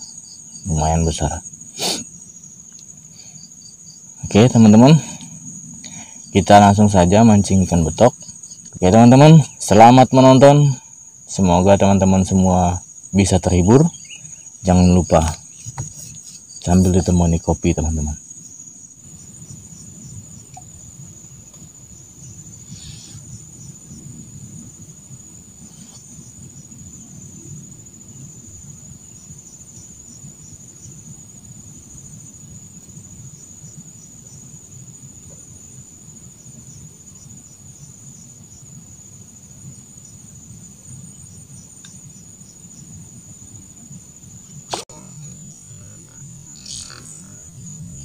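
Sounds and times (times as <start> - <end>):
fast pulsing insect chirp: 0.0 - 48.0
insects high-pitched trill: 0.0 - 48.0.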